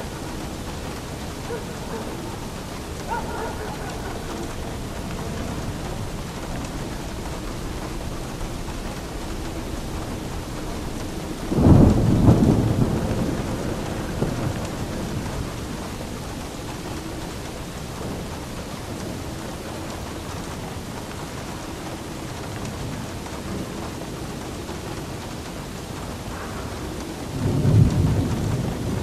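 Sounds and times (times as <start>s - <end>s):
steady rain: 0.0s - 29.0s
thunder clap and rumble: 0.0s - 29.0s.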